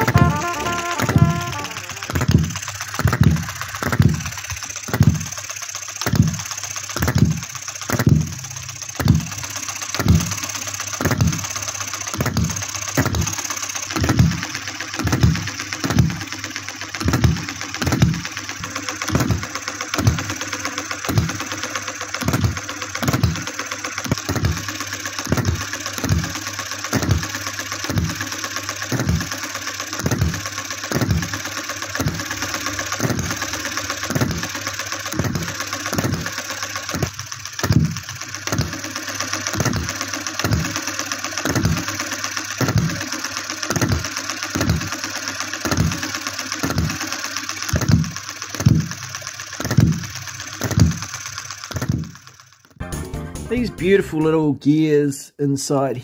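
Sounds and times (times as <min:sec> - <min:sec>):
engine mechanical clatter: 0:00.0 - 0:52.8
small gas engine popping: 0:00.0 - 0:52.8.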